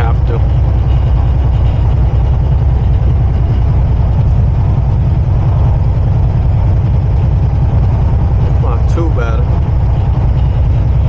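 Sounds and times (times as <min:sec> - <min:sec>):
diesel engine drone: 0:00.0 - 0:11.0
tyre and road noise: 0:00.0 - 0:11.0.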